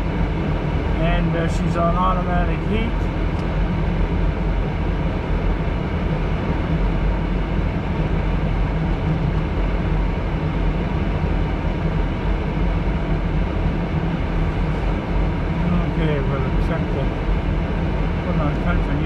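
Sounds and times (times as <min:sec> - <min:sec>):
engine hum: 0:00.0 - 0:19.0
heater fan blowing: 0:00.0 - 0:19.0.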